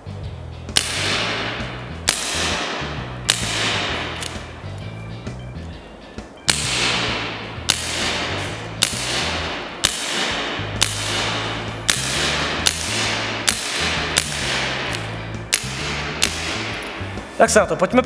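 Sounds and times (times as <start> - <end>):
gas pistol shots echoing: 0.7 - 4.7, 6.5 - 17.3.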